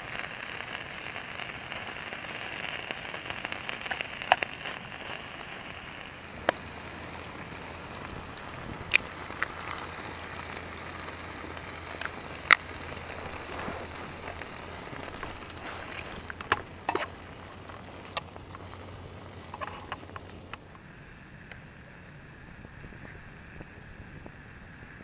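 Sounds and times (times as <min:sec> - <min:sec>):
food crackling in pan: 0:00.0 - 0:20.7.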